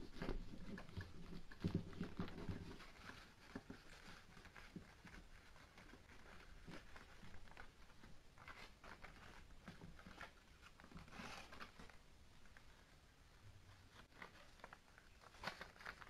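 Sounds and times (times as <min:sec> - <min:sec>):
paper rustling and crinkling: 0:00.0 - 0:13.0, 0:13.6 - 0:16.0.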